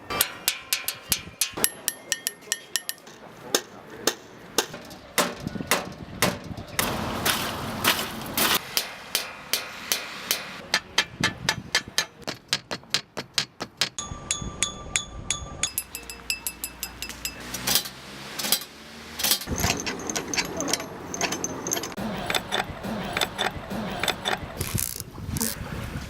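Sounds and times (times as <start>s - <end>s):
sharp clinks and knocks: 0.0s - 6.9s, 8.6s - 25.0s.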